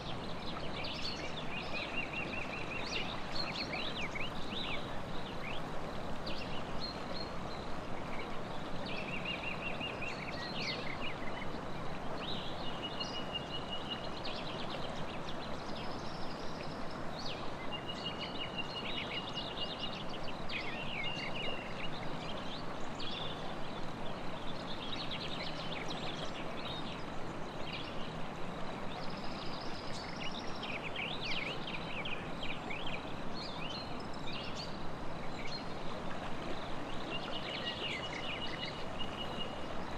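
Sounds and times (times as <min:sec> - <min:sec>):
flowing river water: 0:00.0 - 0:39.9
songbirds chirping: 0:00.0 - 0:39.9.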